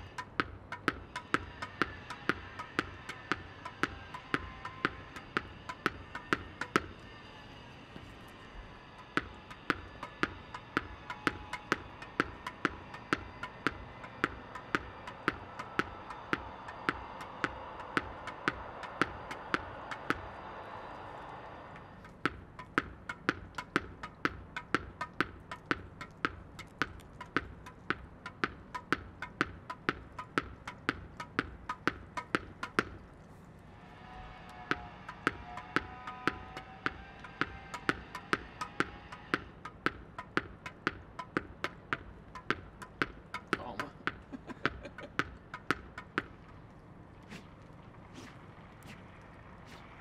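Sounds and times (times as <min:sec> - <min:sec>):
tennis ball bouncing: 0:00.0 - 0:07.2, 0:08.0 - 0:33.1, 0:34.6 - 0:46.6, 0:47.2 - 0:49.1.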